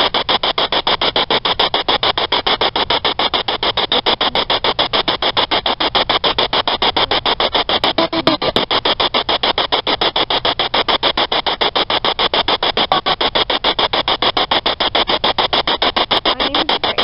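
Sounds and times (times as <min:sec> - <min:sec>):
pulsing radio static: 0:00.0 - 0:17.0.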